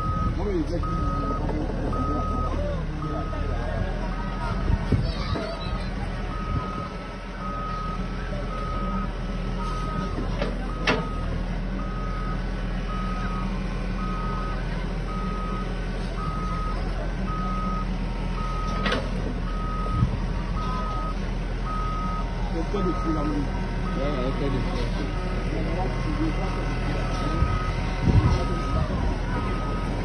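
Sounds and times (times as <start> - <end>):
reversing alarm beeping: 0.0 - 3.6, 6.2 - 30.0
diesel engine drone: 0.0 - 30.0.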